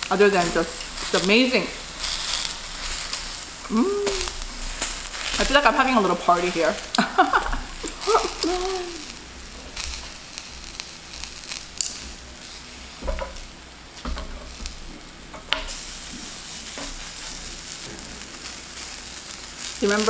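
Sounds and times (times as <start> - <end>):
vegetables sizzling on griddle: 0.0 - 20.0.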